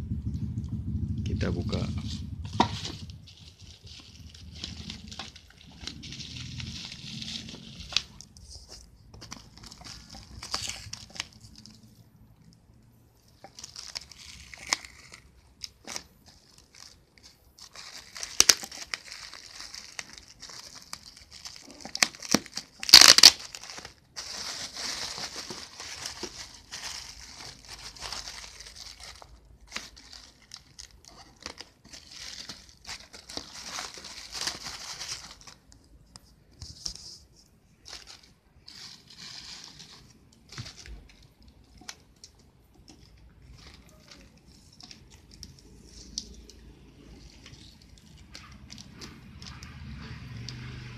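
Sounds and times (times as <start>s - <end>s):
plastic shrink wrap crinkling: 1.3s - 50.9s.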